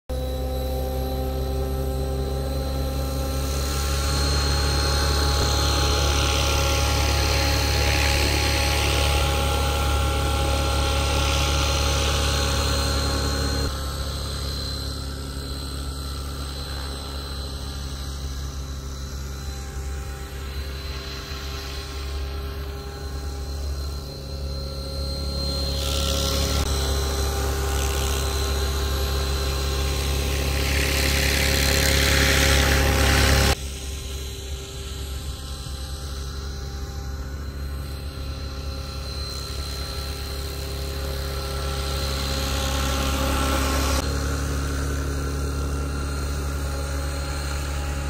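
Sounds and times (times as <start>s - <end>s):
rc helicopter motor whine: 0.1s - 48.0s
rotor blades buzzing: 0.1s - 48.0s.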